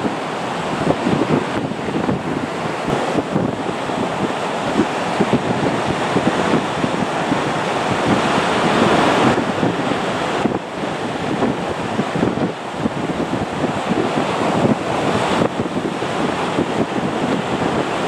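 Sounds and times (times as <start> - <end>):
distant jet engines roaring: 0.0 - 18.0
wind buffeting microphone: 0.0 - 18.0.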